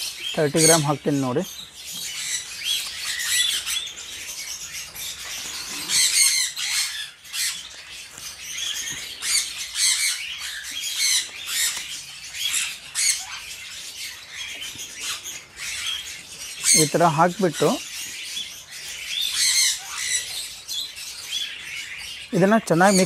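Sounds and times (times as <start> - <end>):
parrots squawking and chirping: 0.0 - 23.0.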